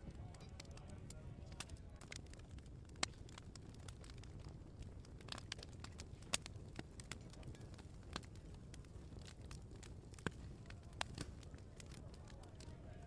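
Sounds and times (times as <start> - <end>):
low rumble of burning: 0.0 - 13.0
wood fire pops and snaps: 0.0 - 13.0.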